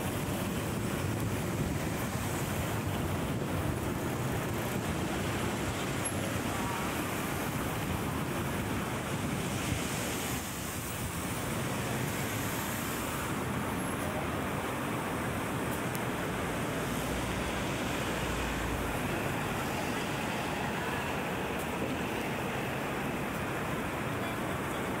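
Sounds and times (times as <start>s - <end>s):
city traffic noise: 0.0s - 25.0s.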